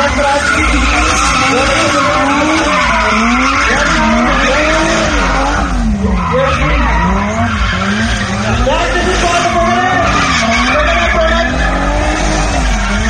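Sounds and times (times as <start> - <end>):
car engine revving: 0.0 - 13.0
tyres skidding: 0.0 - 13.0.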